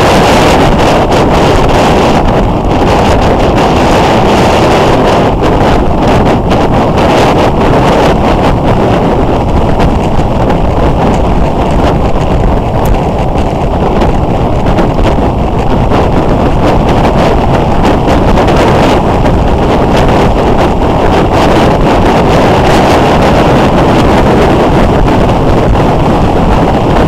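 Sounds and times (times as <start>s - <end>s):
motorcycle riding noise: 0.0s - 27.0s
wind buffeting microphone: 0.0s - 27.0s.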